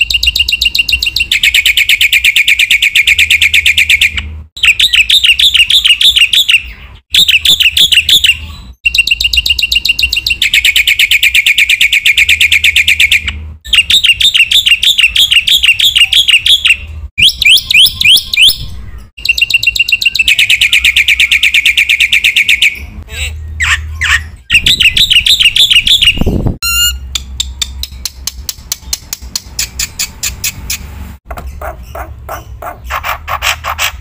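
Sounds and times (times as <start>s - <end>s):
bird chirps and trills: 0.0s - 34.0s.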